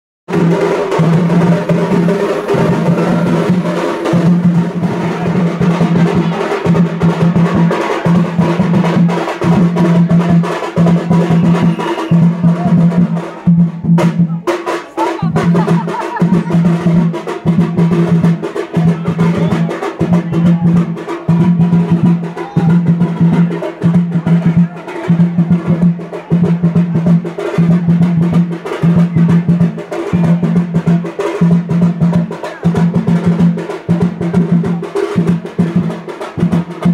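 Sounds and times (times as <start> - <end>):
drums playing a steady beat: 0.3 - 36.9.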